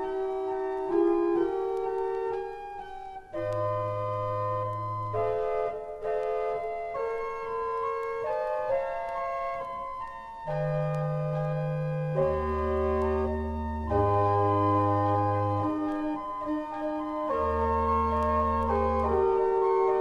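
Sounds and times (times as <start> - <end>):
pipe organ chords: 0.0 - 20.0.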